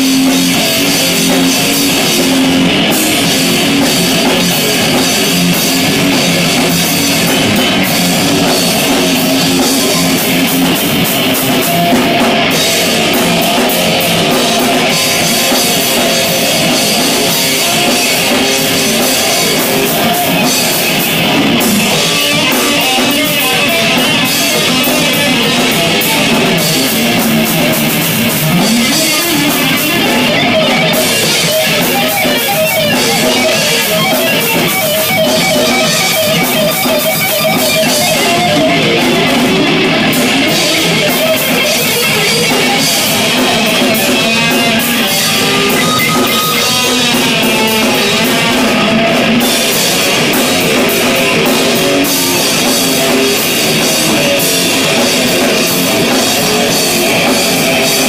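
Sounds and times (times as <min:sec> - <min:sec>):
bass guitar: 0:00.0 - 0:58.0
distorted electric guitars: 0:00.0 - 0:58.0
drum kit: 0:00.0 - 0:58.0.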